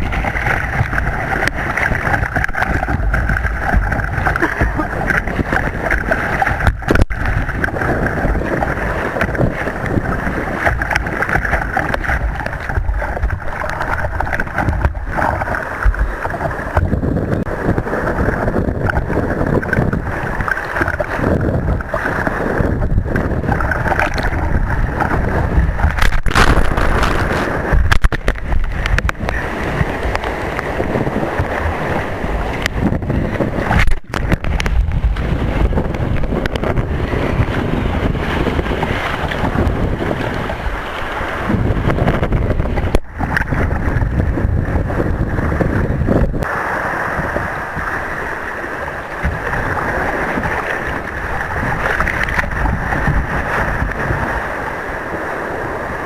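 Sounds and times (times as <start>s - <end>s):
sea water rushing and splashing: 0.0s - 56.0s
wind buffeting microphone: 0.0s - 56.0s.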